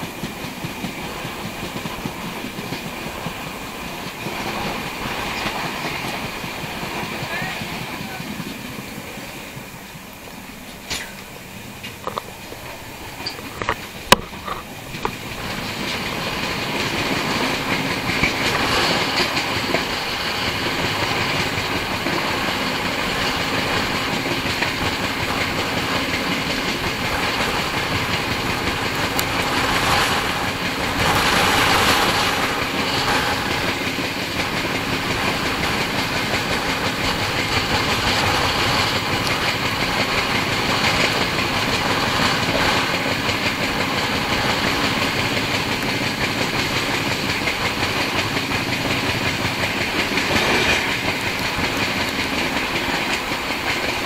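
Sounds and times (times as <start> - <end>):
train wheels on rails: 0.0 - 54.0
rushing air: 7.8 - 54.0.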